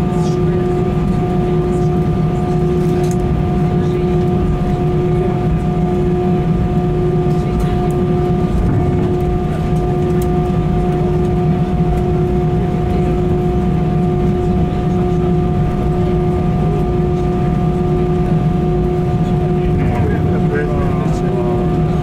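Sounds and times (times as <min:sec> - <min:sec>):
aircraft engines idling rumble: 0:00.0 - 0:22.0.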